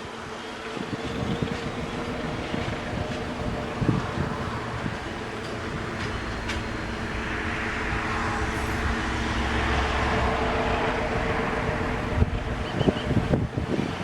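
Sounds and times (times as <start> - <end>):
diesel locomotive engine drone: 0.0 - 14.0
wheels rumbling on rails: 0.0 - 14.0.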